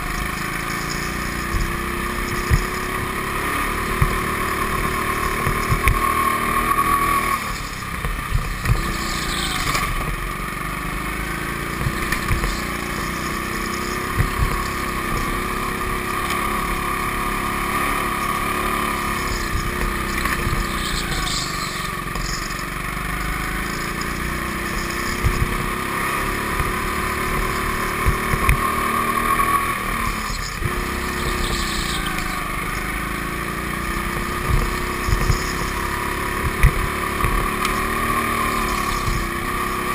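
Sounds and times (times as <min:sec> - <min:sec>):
go-kart motor running: 0:00.0 - 0:39.9.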